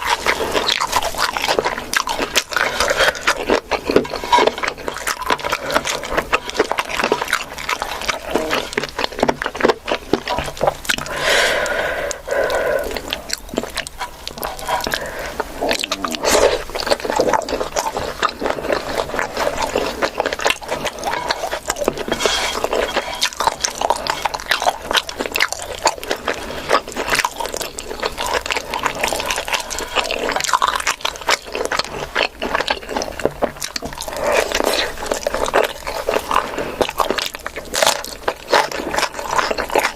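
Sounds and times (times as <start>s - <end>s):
person chewing and biting food: 0.0s - 39.9s.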